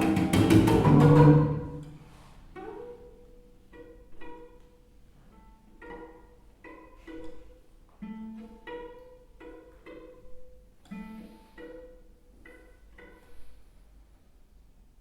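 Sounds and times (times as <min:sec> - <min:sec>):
cello and double bass duet: 0:00.0 - 0:13.7
plucked pizzicato notes: 0:00.0 - 0:13.9.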